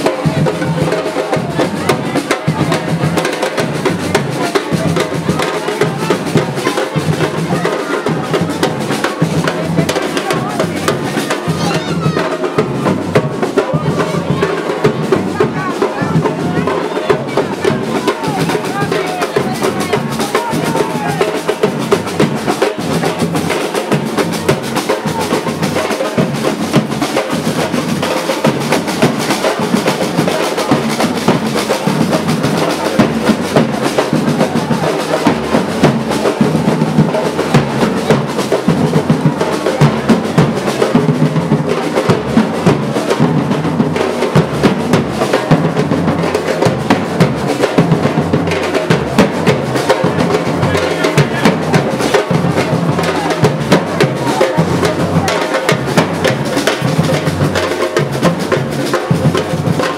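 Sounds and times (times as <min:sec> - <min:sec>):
drums played with quick strokes: 0:00.0 - 0:59.9.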